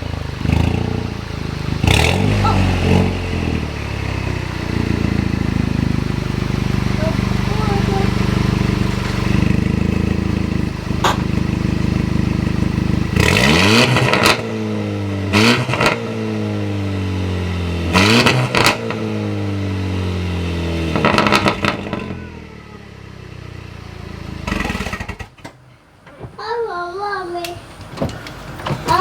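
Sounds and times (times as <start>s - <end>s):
car engine idling and revving: 0.0s - 26.0s, 26.7s - 29.0s
exhaust crackling: 0.0s - 29.0s.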